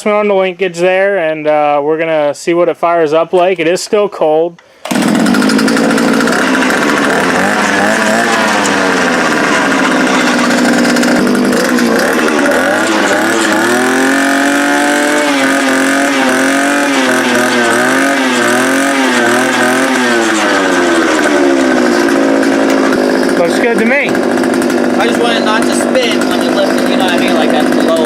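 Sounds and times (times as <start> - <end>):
two-stroke auger engine revving: 4.8 - 28.0.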